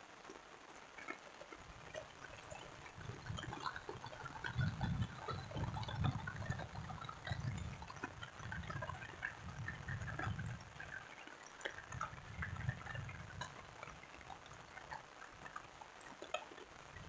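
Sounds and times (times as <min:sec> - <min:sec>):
raindrops pattering: 0:00.0 - 0:17.0.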